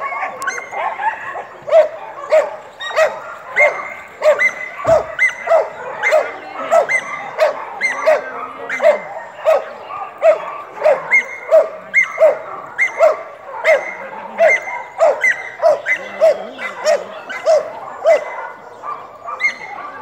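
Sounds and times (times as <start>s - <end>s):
dog barking aggressively: 0.0s - 20.0s.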